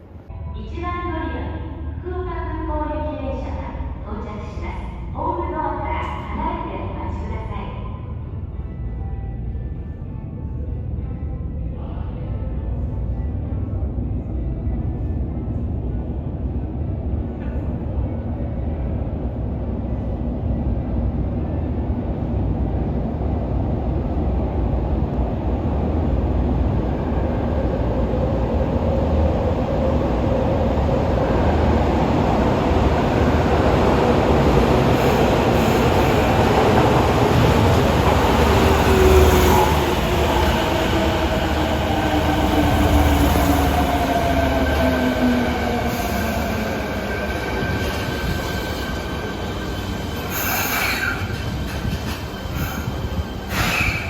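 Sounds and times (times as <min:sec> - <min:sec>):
train rumble: 0:03.1 - 0:54.0.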